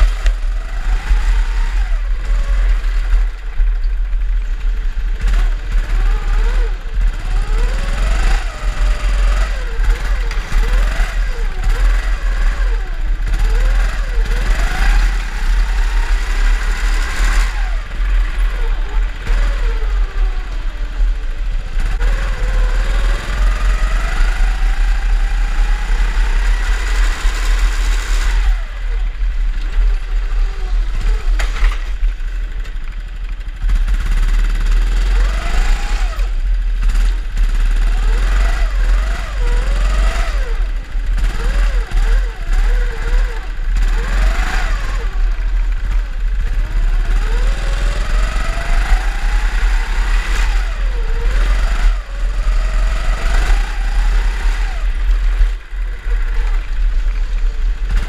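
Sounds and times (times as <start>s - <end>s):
steady low rumble: 0.0s - 35.4s, 36.0s - 58.0s
drift kart motors revving: 0.0s - 58.0s.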